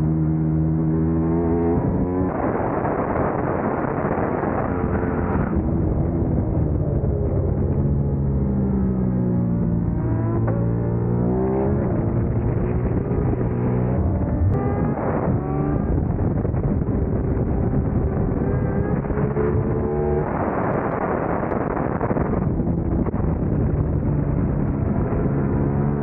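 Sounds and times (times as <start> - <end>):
motorcycle engine revving: 0.0 - 26.0
wind noise on microphone: 0.0 - 26.0.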